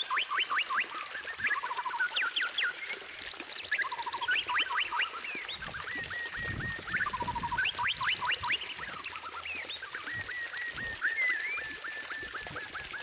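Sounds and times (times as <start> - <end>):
bird singing whistled notes: 0.0 - 13.0.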